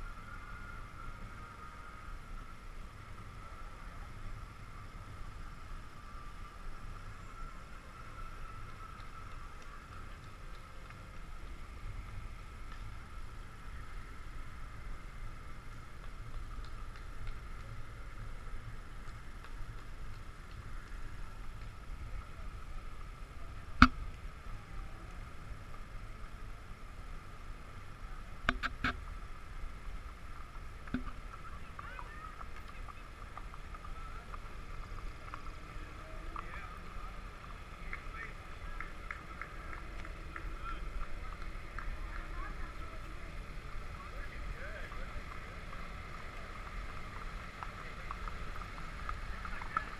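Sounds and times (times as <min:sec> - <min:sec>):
faint hum: 0:00.0 - 0:49.9.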